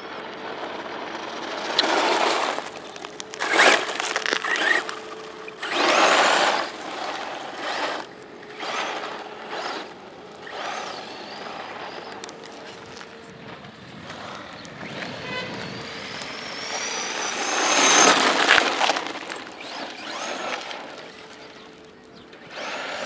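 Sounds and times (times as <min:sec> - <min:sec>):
rc truck motor whine: 0:00.0 - 0:23.0
tyres on gravel: 0:00.0 - 0:23.0.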